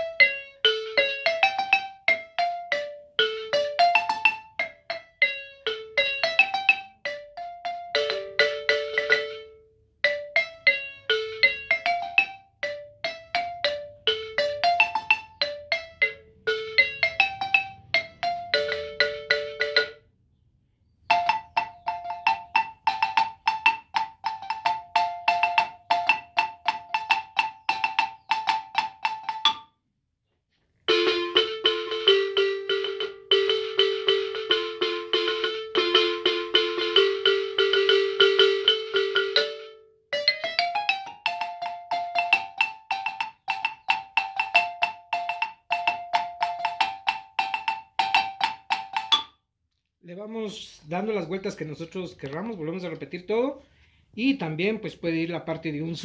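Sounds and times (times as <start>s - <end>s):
marimba melody: 0.0s - 20.0s, 21.1s - 29.7s, 30.9s - 49.4s.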